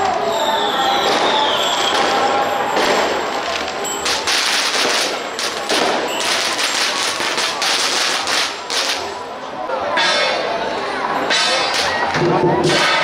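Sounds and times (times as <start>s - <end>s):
firecrackers crackling: 0.0s - 10.5s, 11.2s - 13.0s.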